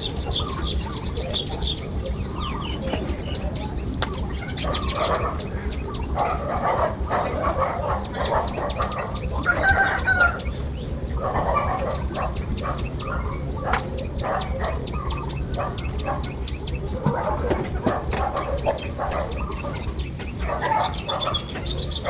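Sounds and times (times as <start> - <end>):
farmyard animals calling: 0.0 - 22.0.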